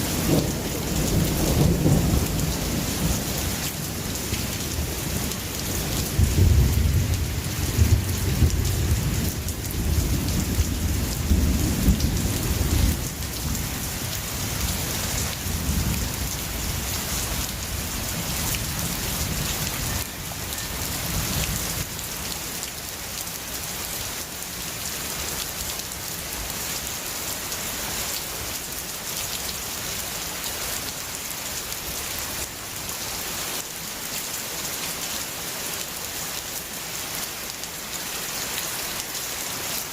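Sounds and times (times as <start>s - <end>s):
heavy rain hissing and pattering: 0.0s - 39.9s.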